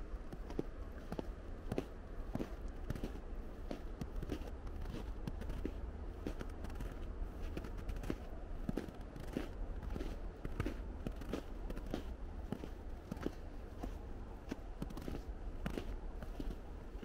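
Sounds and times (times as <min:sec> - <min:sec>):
footsteps crunching in snow: 0:00.5 - 0:17.0.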